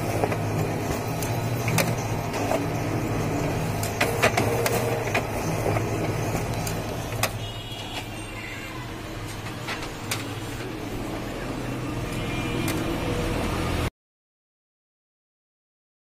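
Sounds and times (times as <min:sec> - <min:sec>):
photocopier motor hum: 0:00.0 - 0:13.9.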